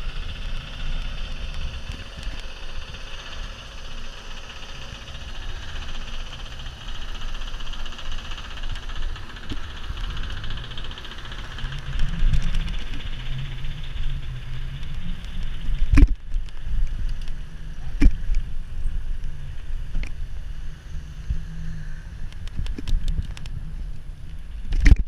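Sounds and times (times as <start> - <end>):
wind buffeting and road rumble: 0.0 - 25.0.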